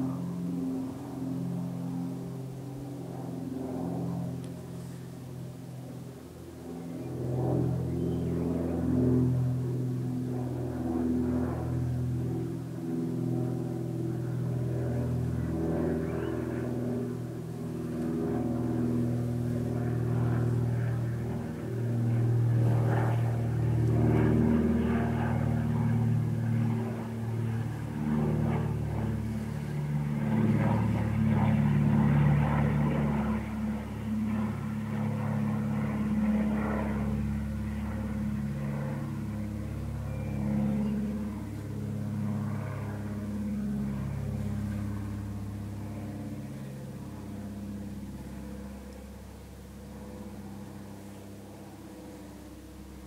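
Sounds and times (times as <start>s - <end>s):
airplane drone overhead: 0.0s - 53.0s.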